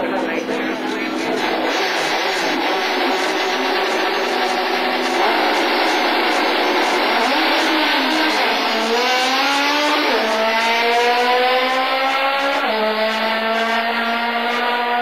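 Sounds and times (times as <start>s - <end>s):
race car accelerating hard: 0.0s - 15.0s.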